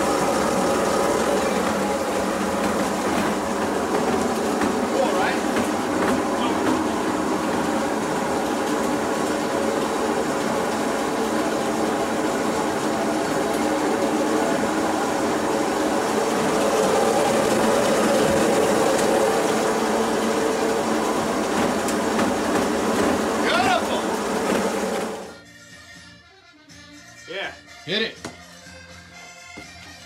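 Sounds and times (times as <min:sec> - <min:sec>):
grape crusher machine churning: 0:00.0 - 0:25.4.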